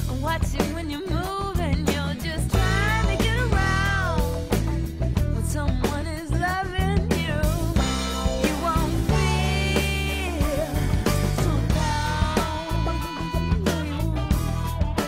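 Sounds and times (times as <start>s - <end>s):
bass line: 0.0s - 15.0s
drum kit: 0.0s - 15.0s
person singing: 0.1s - 4.6s, 5.5s - 14.7s.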